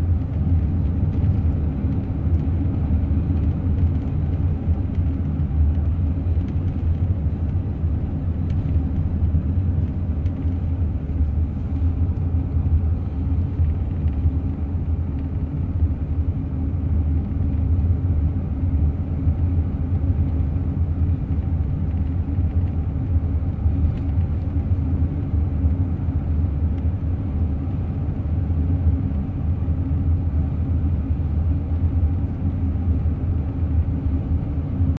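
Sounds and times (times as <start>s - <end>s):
car interior road and engine rumble: 0.0s - 35.0s.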